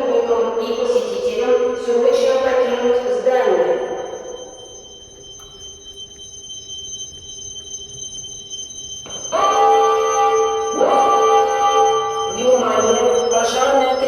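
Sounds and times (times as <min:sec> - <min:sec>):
loud chime-like tones: 0:00.0 - 0:14.0
loudspeaker high whine: 0:00.0 - 0:14.0.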